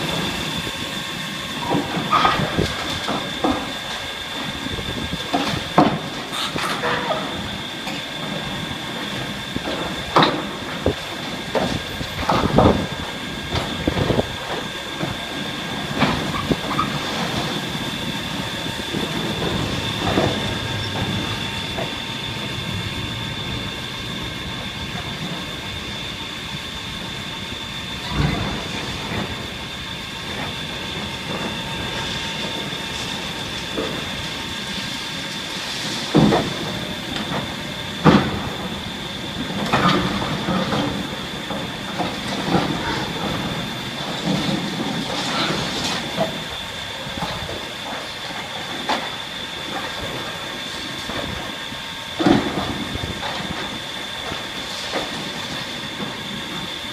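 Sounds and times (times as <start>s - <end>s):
machinery high whine: 0.0s - 56.9s.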